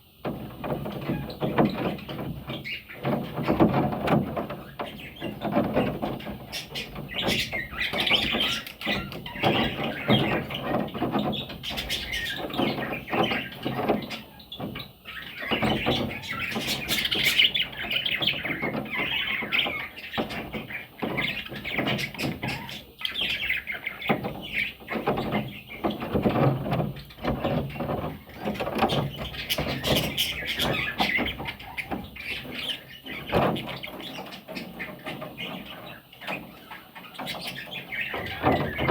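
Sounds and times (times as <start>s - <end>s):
budgerigars chirping and squawking: 0.3s - 38.9s.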